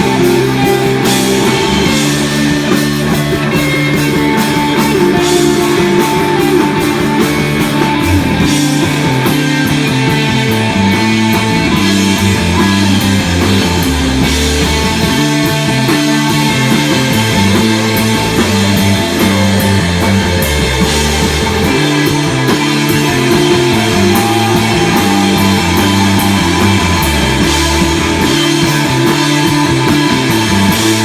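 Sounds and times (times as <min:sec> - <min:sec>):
bass: 0:00.0 - 0:31.0
drum kit with cymbals: 0:00.0 - 0:31.0
electric guitar: 0:00.0 - 0:31.0.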